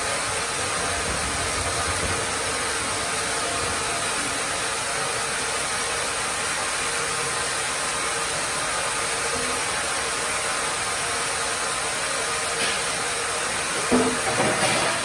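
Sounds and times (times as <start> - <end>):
faint machinery hum: 0.0 - 15.0.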